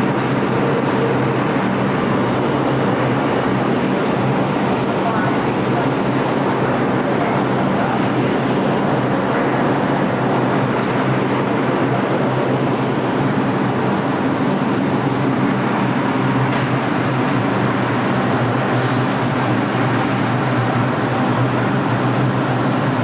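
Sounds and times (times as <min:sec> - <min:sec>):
subway train rumble: 0:00.0 - 0:23.0.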